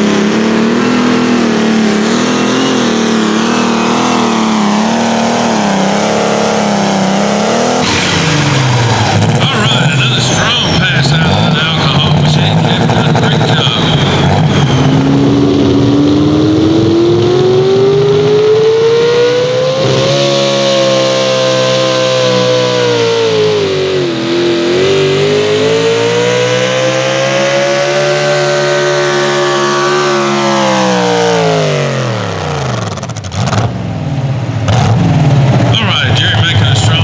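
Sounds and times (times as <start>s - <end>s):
engine at full throttle: 0.0s - 37.0s.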